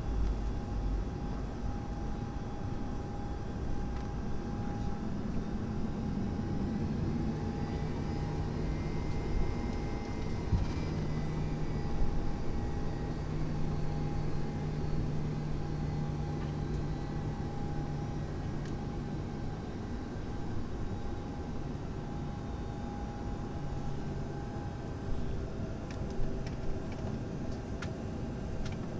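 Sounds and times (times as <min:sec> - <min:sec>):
jet engine hum in cabin: 0:00.0 - 0:28.9.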